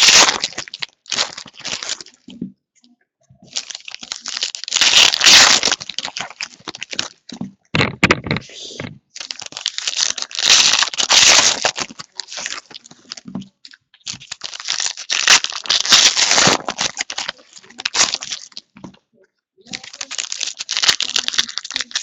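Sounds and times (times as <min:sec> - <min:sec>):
plastic wrappers tearing and crinkling: 0:00.0 - 0:02.3, 0:03.5 - 0:07.4, 0:09.2 - 0:18.8, 0:19.7 - 0:22.0.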